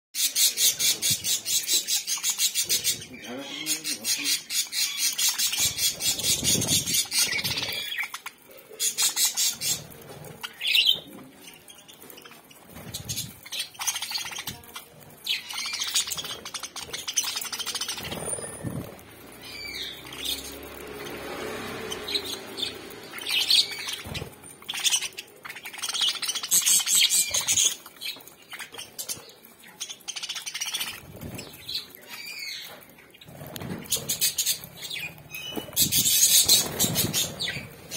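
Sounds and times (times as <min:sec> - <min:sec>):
budgerigars chirping and chattering: 0:00.2 - 0:37.9.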